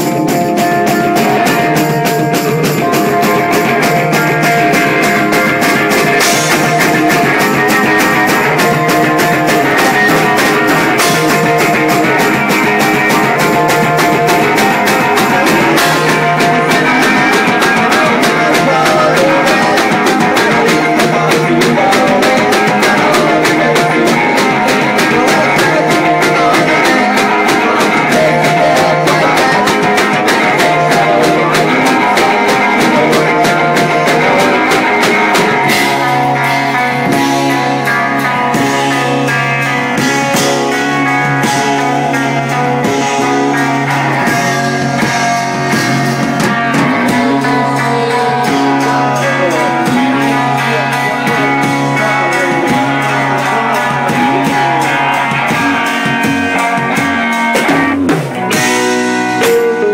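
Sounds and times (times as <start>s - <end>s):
drum kit beat: 0.0s - 59.9s
guitar: 0.0s - 59.9s
live rock band playing: 0.0s - 59.9s
person singing: 0.0s - 59.9s.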